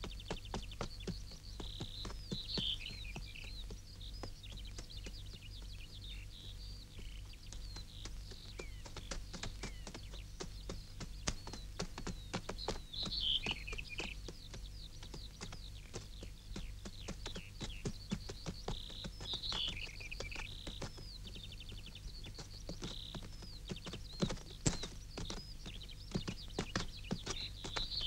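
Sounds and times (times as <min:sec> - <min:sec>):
faint low hum: 0:00.0 - 0:28.0
hooves tapping on stony ground: 0:00.0 - 0:28.0
small birds chirping: 0:00.0 - 0:28.0
bird trill: 0:00.1 - 0:28.0.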